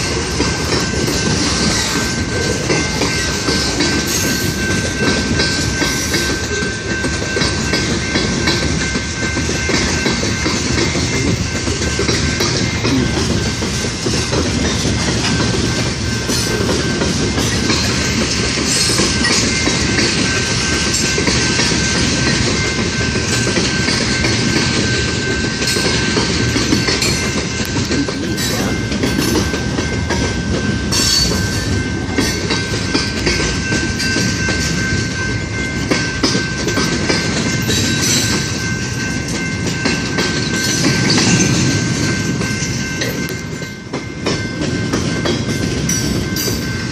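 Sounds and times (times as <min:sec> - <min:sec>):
freight train wheels clattering: 0:00.0 - 0:46.9.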